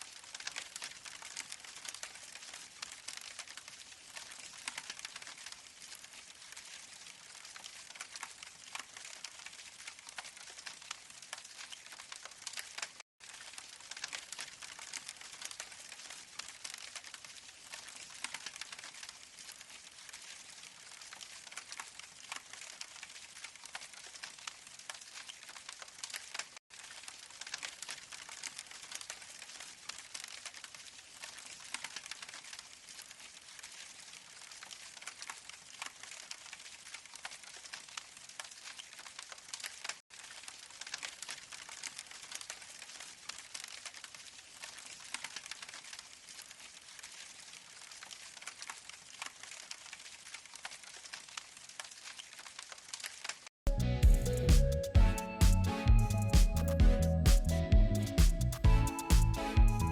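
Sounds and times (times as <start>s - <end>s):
campfire crackle through small speaker: 0.0s - 59.9s.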